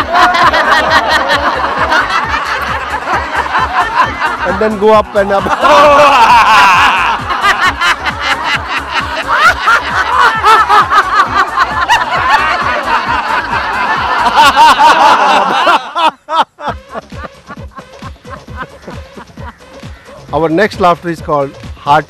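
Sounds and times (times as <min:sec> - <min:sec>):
group of people laughing loudly: 0:00.0 - 0:19.7.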